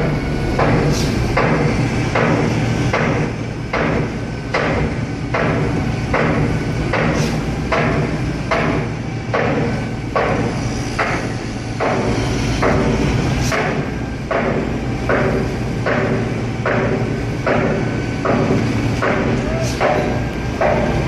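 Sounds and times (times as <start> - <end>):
concrete pump clunking: 0.0 - 21.0
truck engine running: 0.0 - 21.0.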